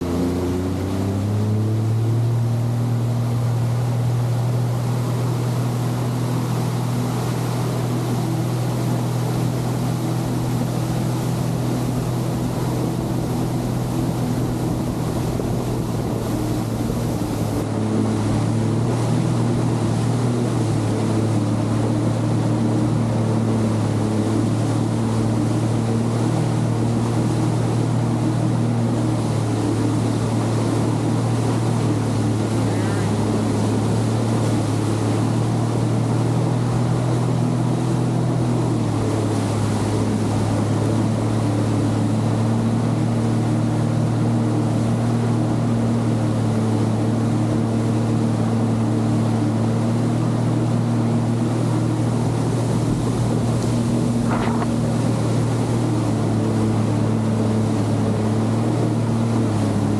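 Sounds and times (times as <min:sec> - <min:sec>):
jet ski engine running: 0:00.0 - 0:59.9
water rushing: 0:00.0 - 0:59.9.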